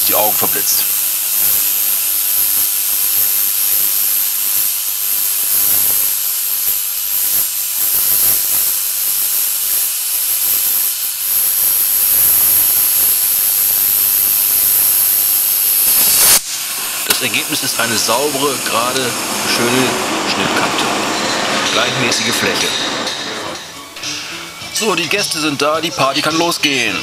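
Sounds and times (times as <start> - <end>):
plasma cutter hissing: 0.0 - 27.0.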